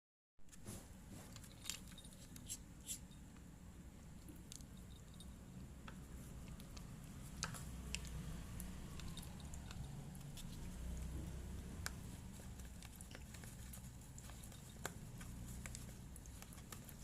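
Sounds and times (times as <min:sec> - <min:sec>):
low steady hum: 0:00.5 - 0:17.0
cat chewing and lapping food: 0:00.6 - 0:17.0.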